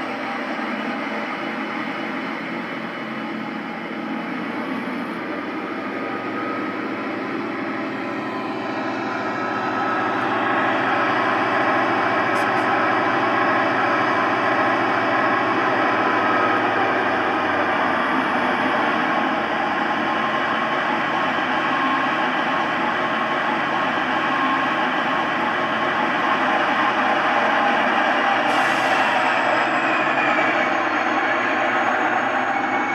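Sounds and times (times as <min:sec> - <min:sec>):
simulated diesel engine running: 0:00.0 - 0:32.9.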